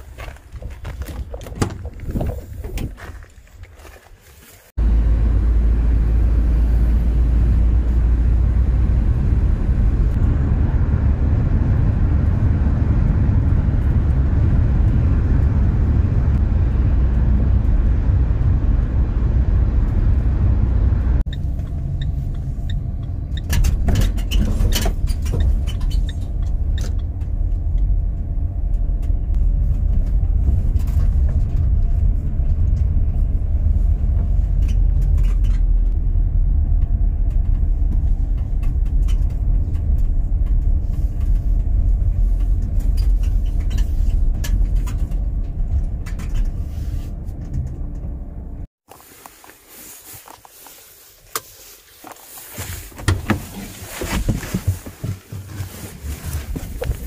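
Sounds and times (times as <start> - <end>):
car driving rumble inside cabin: 4.7 - 48.7, 52.5 - 57.0.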